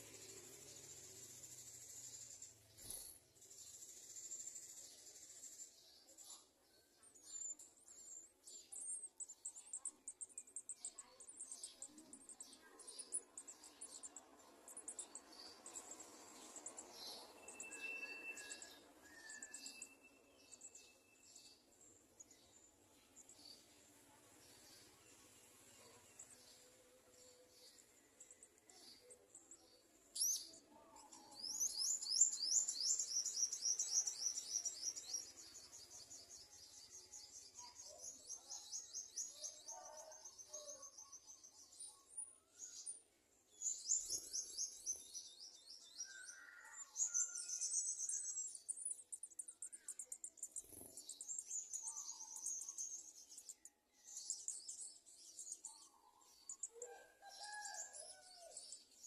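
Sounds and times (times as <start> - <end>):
birds trilling chirps: 0.0 - 43.0, 43.6 - 58.7.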